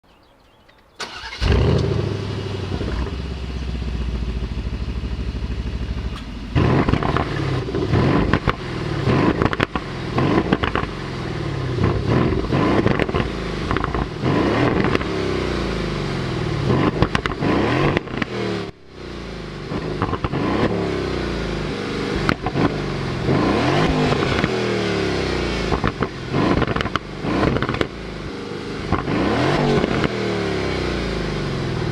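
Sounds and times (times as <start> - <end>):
car engine idling and revving: 1.0 - 31.9.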